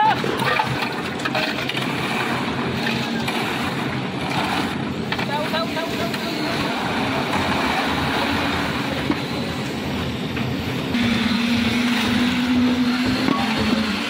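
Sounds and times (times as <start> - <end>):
concrete mixer engine running: 0.0 - 14.0.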